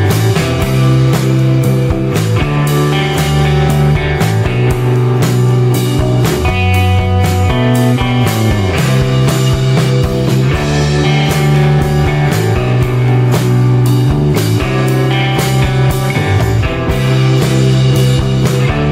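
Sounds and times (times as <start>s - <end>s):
steady drum beat: 0.0s - 18.9s.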